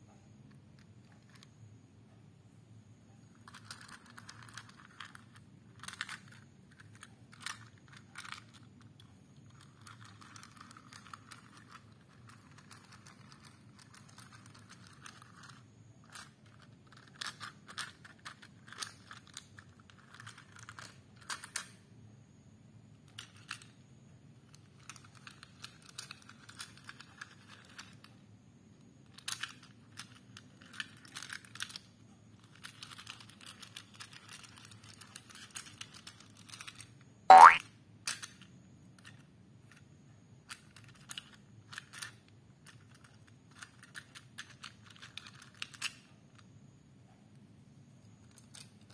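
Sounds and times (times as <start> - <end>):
toy trains clicking on plastic track: 3.2 - 21.8, 22.9 - 46.7, 47.9 - 48.9.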